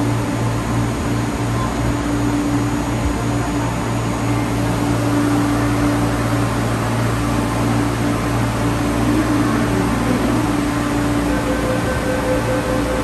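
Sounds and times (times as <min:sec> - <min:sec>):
constant air rush: 0:00.0 - 0:13.0
train air-conditioning hum: 0:00.0 - 0:13.0.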